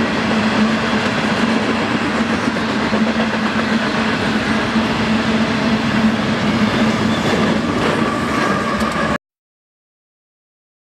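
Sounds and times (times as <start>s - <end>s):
diesel locomotives droning: 0.0s - 9.2s
train wheels on rails: 0.0s - 9.2s.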